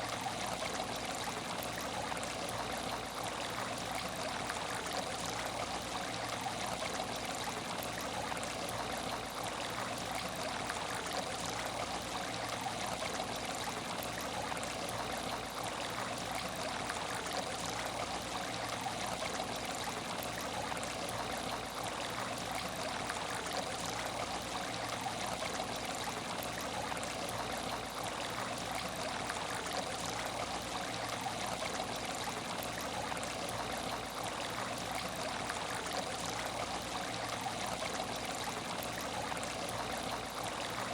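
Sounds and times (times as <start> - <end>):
water trickling in tank: 0.0 - 40.9.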